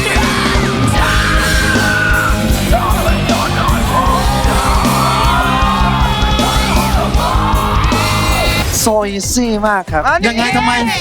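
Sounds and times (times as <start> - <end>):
shouted sung lead vocal: 0.0 - 8.8, 10.2 - 11.0
loud rock music: 0.0 - 11.0.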